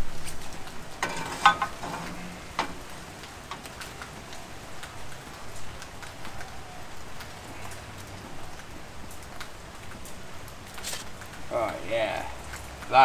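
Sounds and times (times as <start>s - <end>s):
crackling sizzle: 0.0s - 13.0s.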